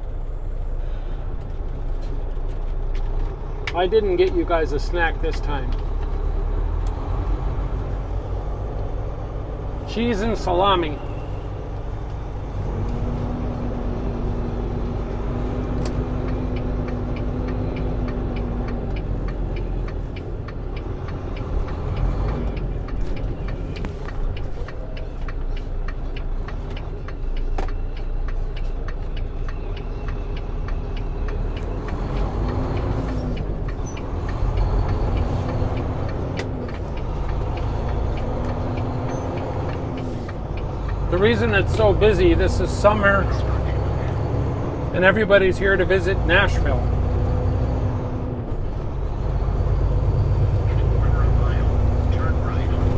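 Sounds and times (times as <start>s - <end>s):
truck diesel engine rumbling: 0.0s - 52.9s.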